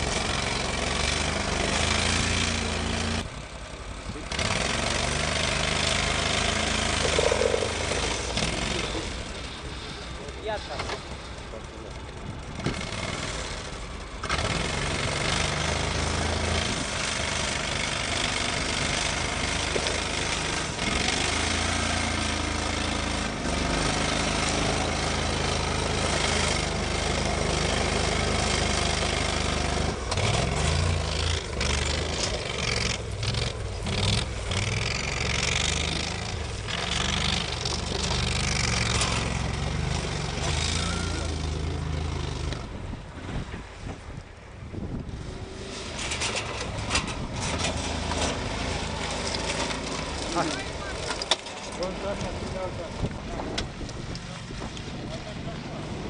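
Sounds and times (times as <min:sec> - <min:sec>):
vehicle engine running hard: 0:00.0 - 0:56.0.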